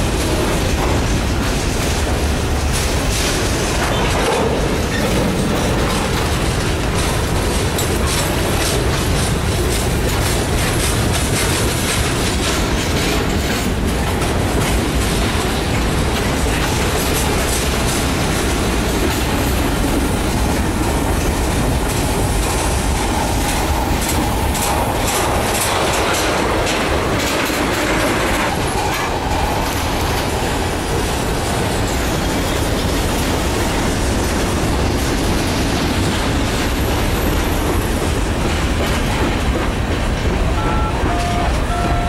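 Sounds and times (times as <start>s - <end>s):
train wheels clicking over rail joints: 0.0s - 42.0s.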